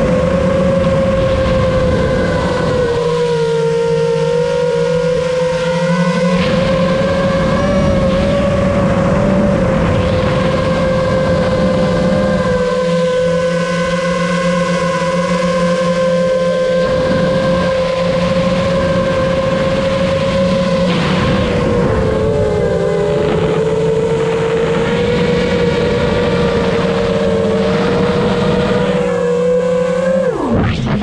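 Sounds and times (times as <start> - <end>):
drone propellers whining: 0.0 - 31.0.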